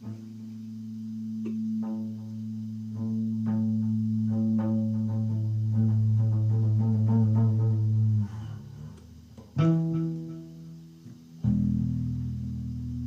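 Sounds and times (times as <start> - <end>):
electric guitar feedback notes: 0.0 - 13.0.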